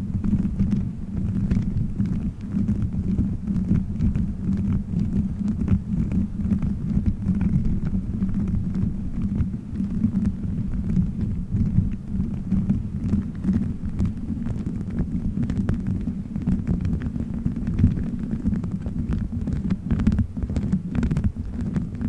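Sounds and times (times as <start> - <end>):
faint crackles: 0.0 - 22.0.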